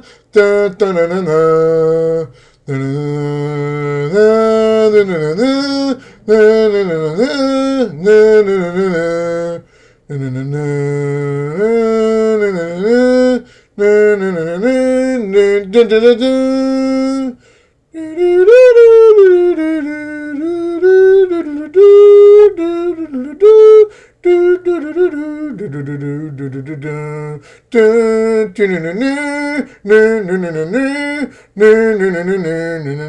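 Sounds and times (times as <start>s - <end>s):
man humming: 0.0s - 33.0s.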